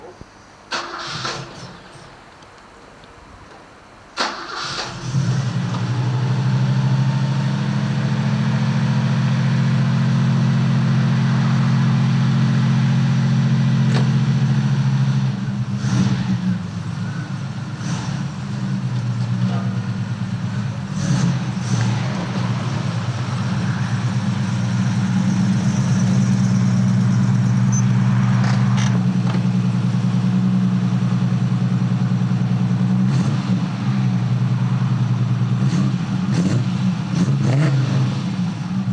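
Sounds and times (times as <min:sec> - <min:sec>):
car engine starting and idling: 0:00.6 - 0:38.9.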